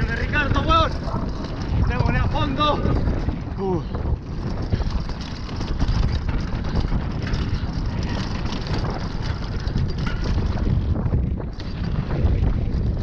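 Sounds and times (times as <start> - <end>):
bike rattling over bumps: 0.0 - 13.0
bike tyres rolling on dirt: 0.0 - 13.0
wind buffeting microphone: 0.0 - 13.0.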